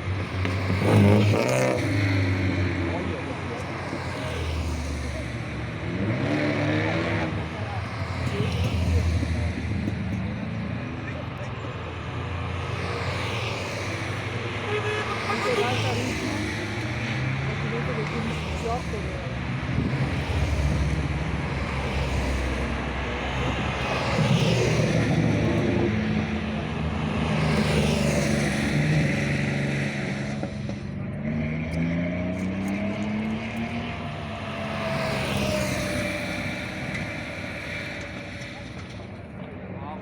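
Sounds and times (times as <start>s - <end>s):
rally car engines revving past: 0.0s - 40.0s.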